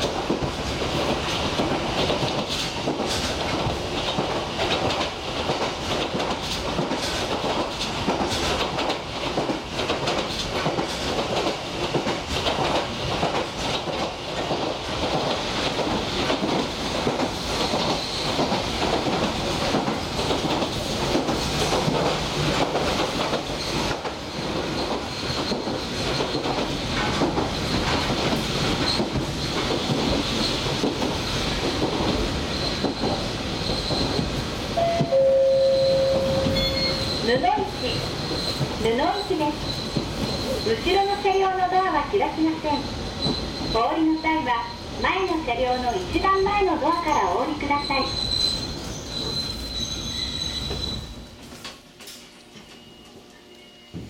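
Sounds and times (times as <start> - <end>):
train running rumble: 0.0 - 53.3.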